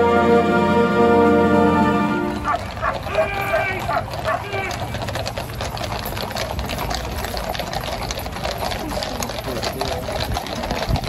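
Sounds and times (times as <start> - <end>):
crowd hubbub: 0.0 - 11.0
horse hooves clattering on road: 0.0 - 11.0.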